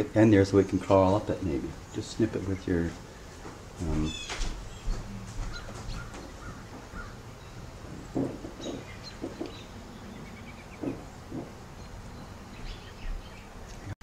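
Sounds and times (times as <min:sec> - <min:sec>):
low background hum: 0:00.0 - 0:14.0
bird calling: 0:00.7 - 0:14.0.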